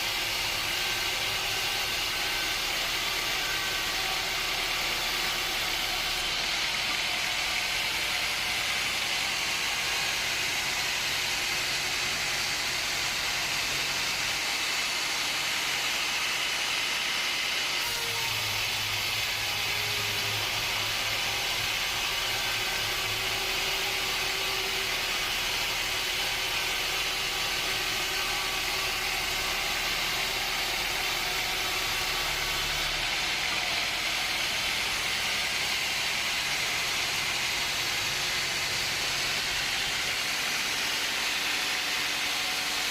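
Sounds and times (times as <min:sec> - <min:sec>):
sawmill machinery hissing: 0:00.0 - 0:42.9.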